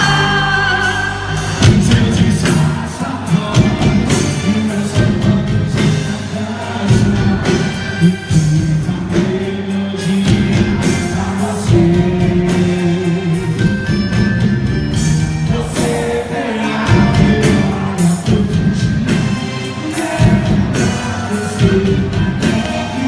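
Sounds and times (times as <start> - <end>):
live folk dance music with singing: 0.0 - 23.0.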